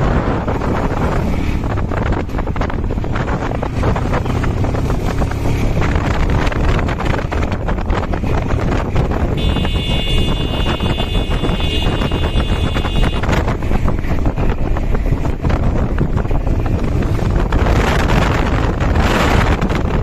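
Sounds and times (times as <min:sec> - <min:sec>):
diesel engine rumbling: 0:00.0 - 0:20.0
wind buffeting microphone: 0:00.0 - 0:20.0.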